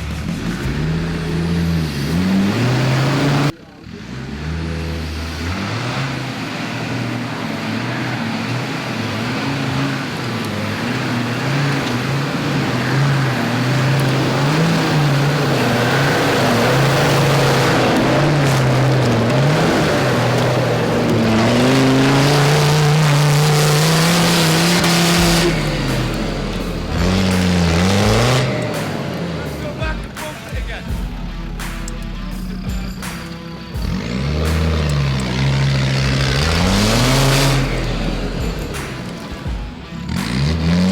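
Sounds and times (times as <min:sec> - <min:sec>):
off-road engine revving: 0:00.0 - 0:40.9
rushing noise: 0:05.4 - 0:40.9.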